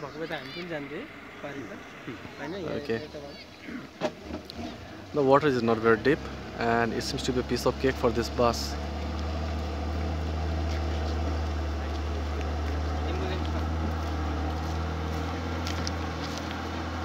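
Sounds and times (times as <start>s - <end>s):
bus engine droning: 0.0s - 17.0s.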